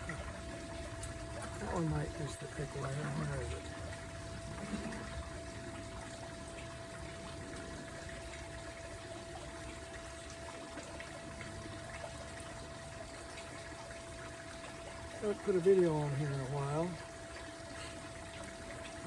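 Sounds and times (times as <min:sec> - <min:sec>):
faint steady hum: 0:00.0 - 0:19.0
water trickling: 0:00.0 - 0:19.0.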